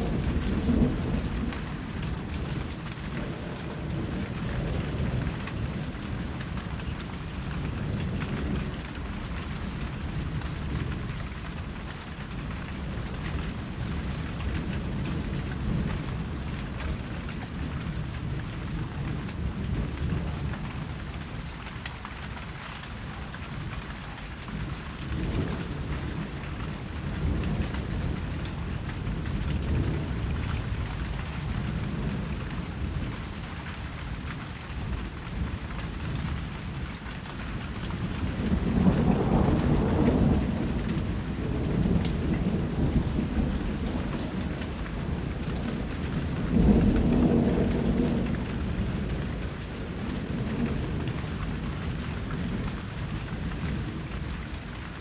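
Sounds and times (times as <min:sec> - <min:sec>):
thunder rumbling: 0:00.0 - 0:21.5, 0:23.2 - 0:55.0
heavy rain: 0:00.0 - 0:55.0.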